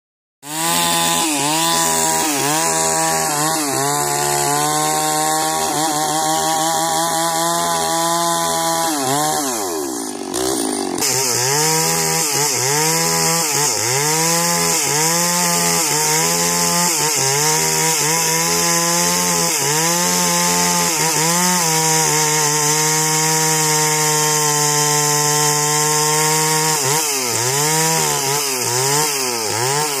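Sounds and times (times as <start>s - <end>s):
chainsaw cutting log: 0.4s - 30.0s.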